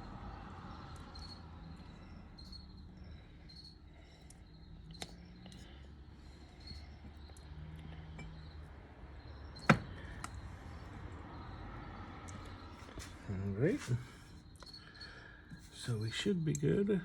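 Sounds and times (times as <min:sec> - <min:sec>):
insect chirping: 0:00.0 - 0:16.8
low steady hum: 0:00.0 - 0:17.0.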